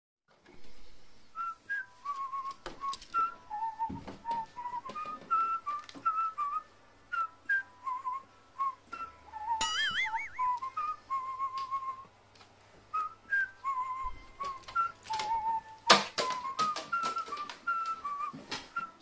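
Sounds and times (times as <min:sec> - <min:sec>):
whistled tune: 0:01.3 - 0:12.1, 0:12.9 - 0:19.0.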